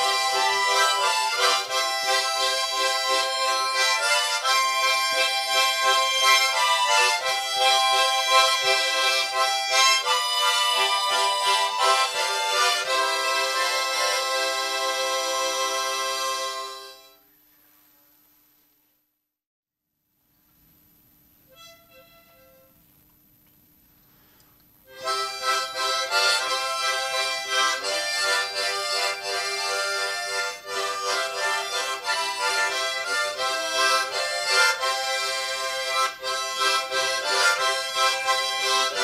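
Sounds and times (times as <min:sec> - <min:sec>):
harmonica ensemble playing: 0:00.0 - 0:17.1, 0:24.9 - 0:39.0.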